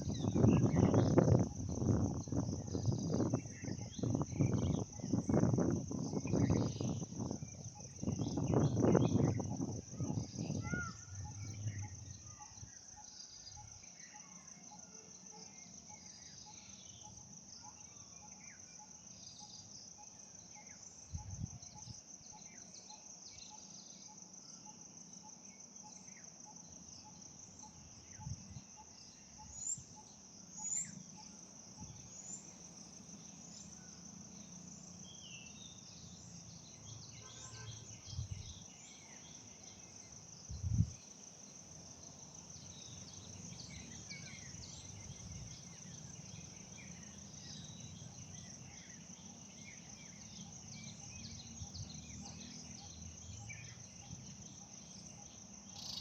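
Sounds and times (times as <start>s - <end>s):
faint bird chirps: 0.0s - 41.2s, 42.1s - 56.0s
crickets trilling: 0.0s - 56.0s.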